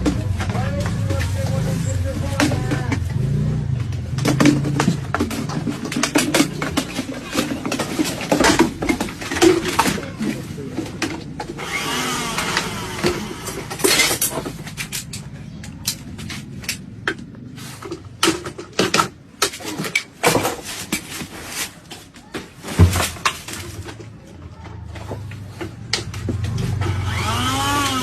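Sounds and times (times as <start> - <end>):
knocks clicks and clatter: 0.0 - 28.0.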